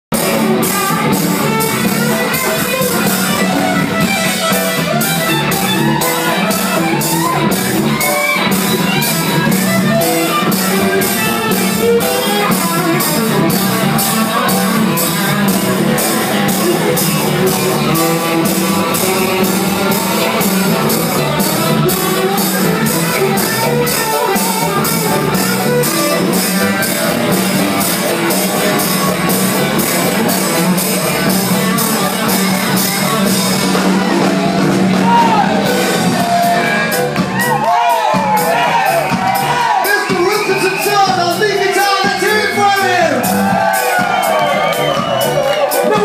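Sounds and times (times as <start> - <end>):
ska band playing live: 0.1 - 46.0
steady cymbal beat: 0.2 - 37.4.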